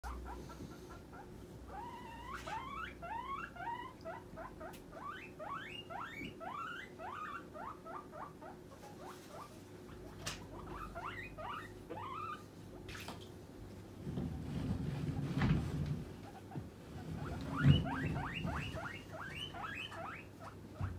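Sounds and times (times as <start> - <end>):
guinea pig wheeking: 0.0 - 12.5, 14.3 - 20.9.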